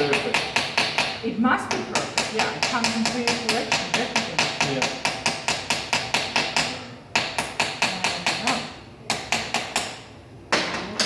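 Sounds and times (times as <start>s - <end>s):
small hammer tapping metal: 0.0s - 10.0s.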